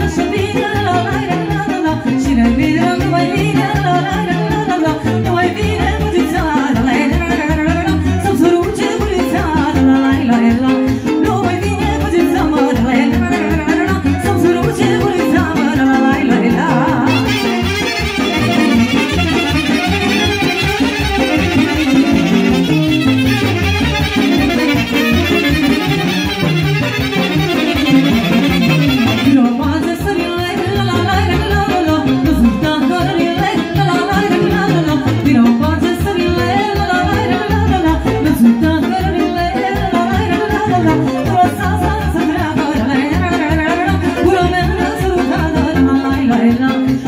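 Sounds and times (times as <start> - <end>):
folk dance band playing: 0.0 - 47.0.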